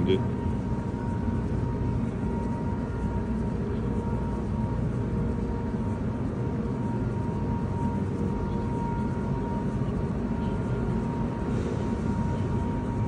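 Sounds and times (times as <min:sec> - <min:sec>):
low machinery rumble: 0:00.0 - 0:13.0
thin steady whine: 0:00.0 - 0:13.0.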